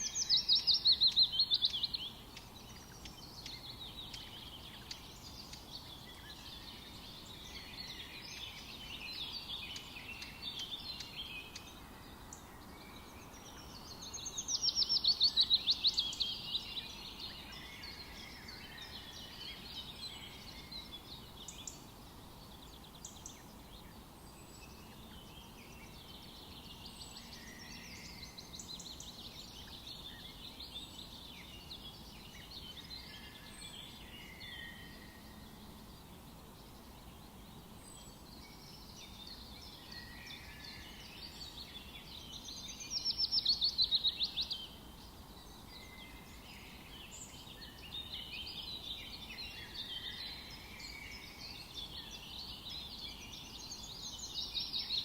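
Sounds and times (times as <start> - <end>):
faint hiss: 0.0 - 55.0
songbirds singing: 0.0 - 55.0.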